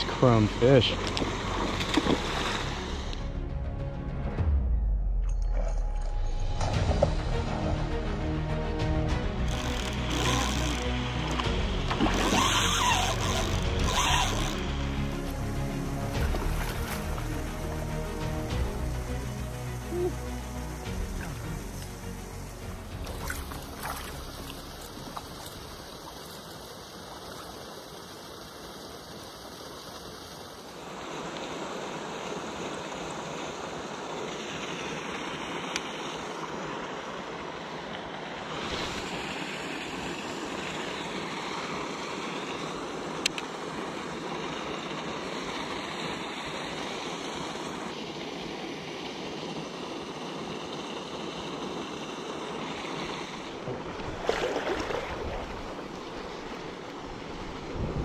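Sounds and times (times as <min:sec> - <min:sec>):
river water rushing: 0:00.0 - 0:04.2, 0:06.2 - 0:58.0
wind: 0:00.0 - 0:58.0.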